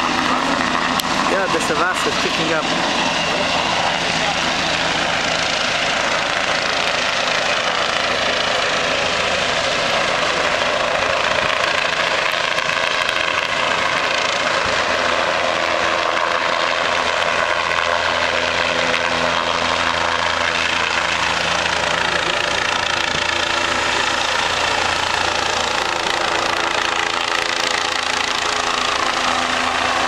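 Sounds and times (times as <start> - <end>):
helicopter flying overhead: 0.0 - 30.0.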